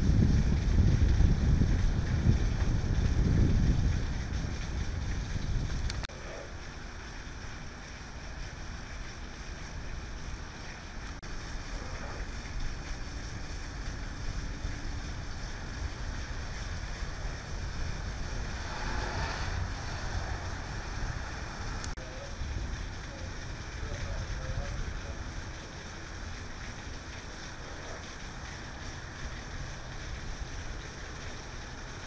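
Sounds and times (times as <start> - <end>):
rain on wet pavement: 0.0 - 32.0
wind rumbling on microphone: 0.0 - 32.0.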